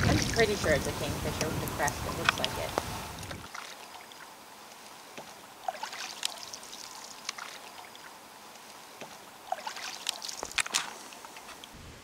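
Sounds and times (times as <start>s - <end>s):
water lapping against canoe hull: 0.0s - 11.8s
small drips and ticks: 1.4s - 11.8s.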